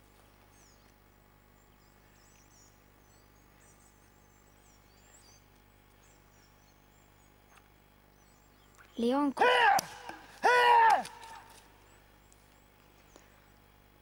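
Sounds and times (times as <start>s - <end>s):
small birds chirping: 0.0s - 9.4s, 11.1s - 13.9s
steady low hum: 0.0s - 14.0s.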